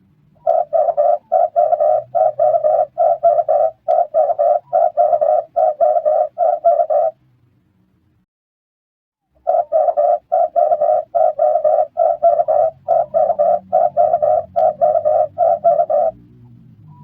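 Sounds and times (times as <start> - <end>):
dove cooing: 0.4 - 7.2, 9.4 - 16.3.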